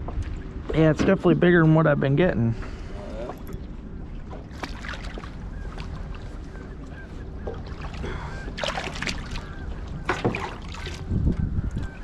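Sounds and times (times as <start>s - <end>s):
low open-air rumble: 0.0s - 12.0s.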